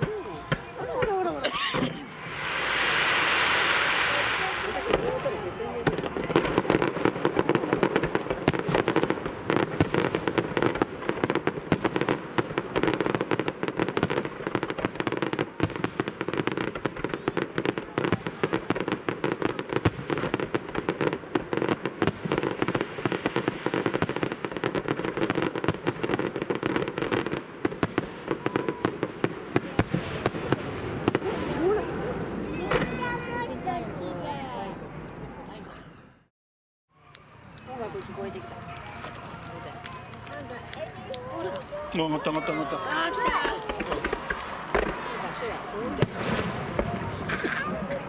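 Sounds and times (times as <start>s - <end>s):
fireworks crackling pops: 0.0s - 35.8s, 37.0s - 48.0s.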